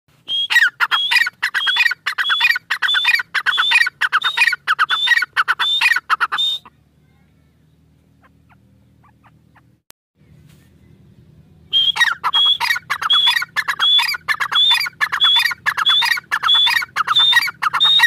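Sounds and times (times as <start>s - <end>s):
bird calling falling phrases: 0.2s - 18.0s.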